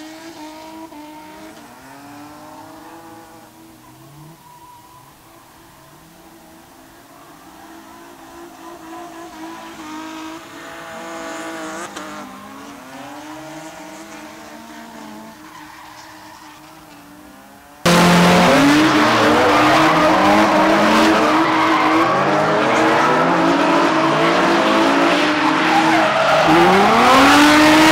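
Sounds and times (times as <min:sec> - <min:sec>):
car engines revving: 0:00.0 - 0:27.9
tyres skidding and squealing: 0:00.0 - 0:27.9.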